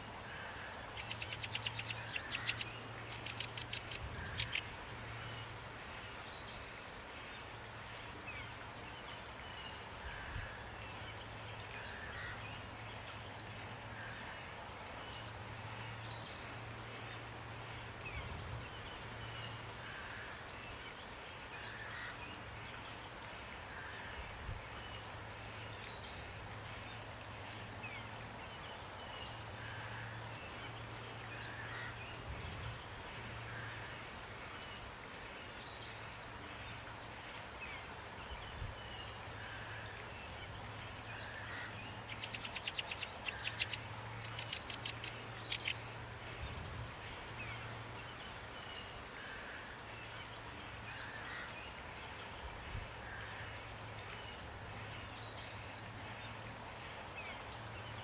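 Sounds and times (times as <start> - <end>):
rain hiss: 0.0 - 58.0
songbirds chirping: 0.0 - 58.0.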